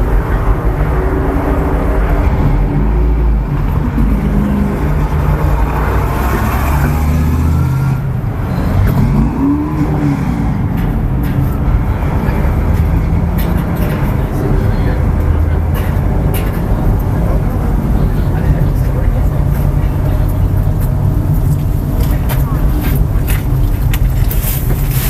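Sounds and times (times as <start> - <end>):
race car engine running: 0.0 - 25.0.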